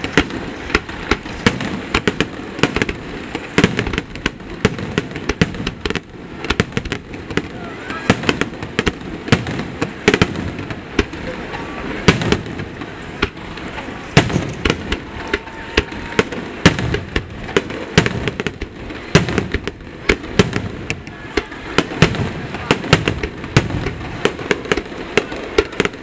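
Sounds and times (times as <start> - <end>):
fireworks bursting with sharp bangs: 0.0 - 26.0.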